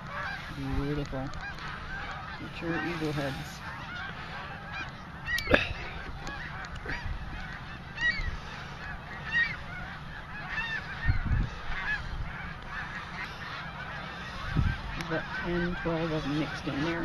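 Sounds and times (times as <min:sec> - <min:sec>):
flock of geese honking: 0:00.0 - 0:17.0.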